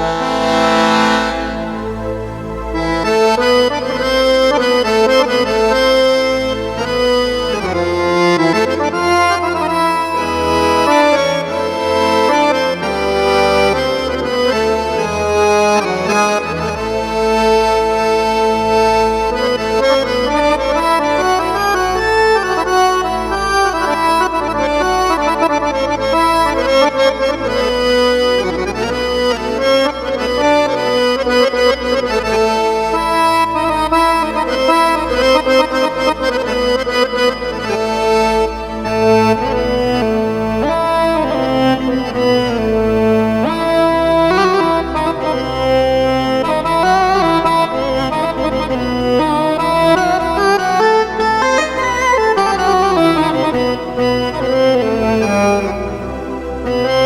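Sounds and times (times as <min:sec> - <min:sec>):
held bass notes: 0:00.0 - 0:57.0
keyboard accordion melody: 0:00.0 - 0:57.0.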